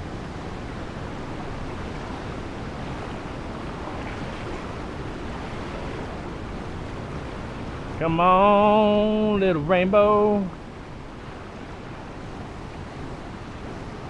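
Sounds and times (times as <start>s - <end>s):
fast river water rushing: 0.0s - 14.0s.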